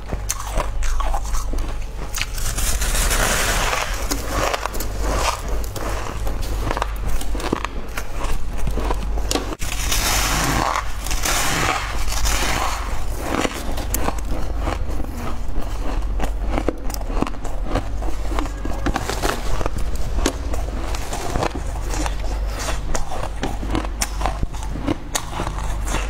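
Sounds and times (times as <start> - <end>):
low hum: 0.0 - 26.0
ice crunching: 0.3 - 23.1.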